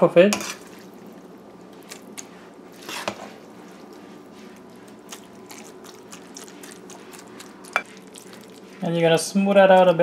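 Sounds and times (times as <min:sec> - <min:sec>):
spoon scooping wet macaroni: 0:00.3 - 0:08.9.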